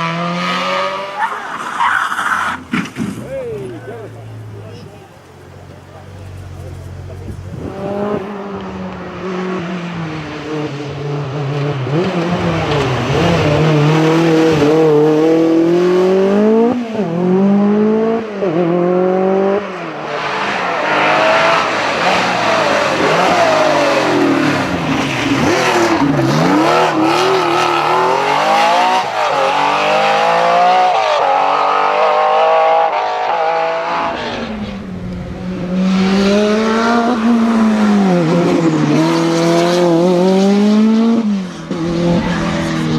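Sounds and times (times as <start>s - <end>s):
rally car engines at full throttle: 0.0s - 42.9s.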